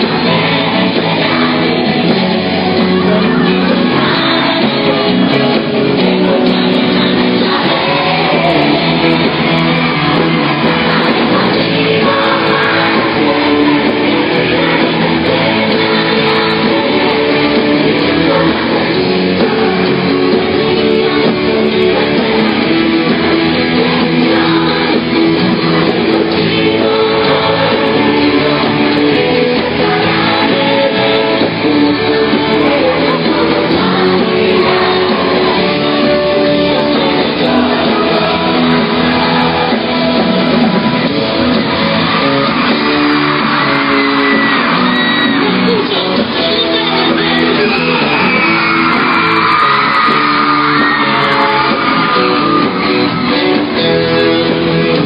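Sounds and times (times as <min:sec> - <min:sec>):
electric guitar: 0:00.0 - 0:55.0
pop-rock band playing: 0:00.0 - 0:55.0.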